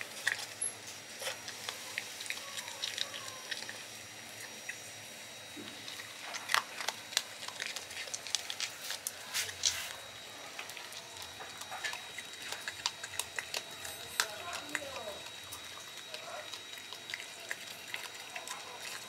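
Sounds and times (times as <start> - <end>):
animal crunching dry kibble: 0.0 - 19.0.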